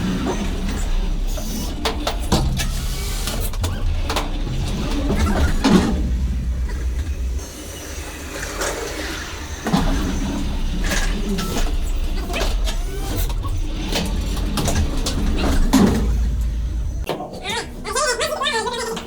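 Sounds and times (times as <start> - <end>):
sharp knocks and clatter: 0.0 - 7.6, 8.4 - 17.4
vehicle engine rumbling: 0.0 - 19.0.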